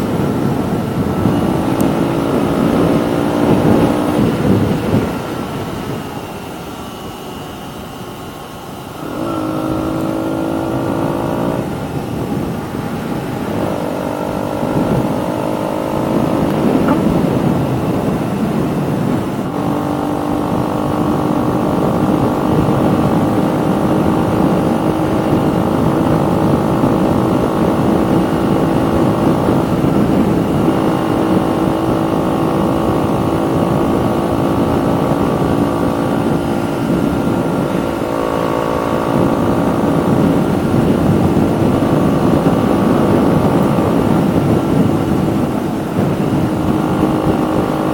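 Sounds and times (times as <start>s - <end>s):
motorcycle engine while riding: 0.0s - 47.9s
wind noise: 0.0s - 47.9s.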